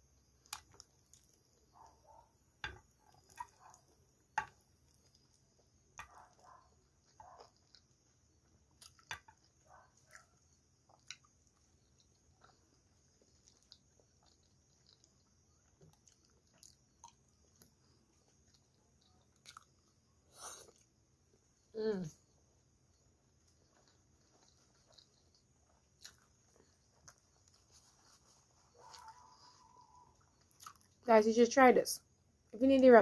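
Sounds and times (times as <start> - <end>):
close-miked chewing: 0.2 - 21.5, 22.2 - 31.1.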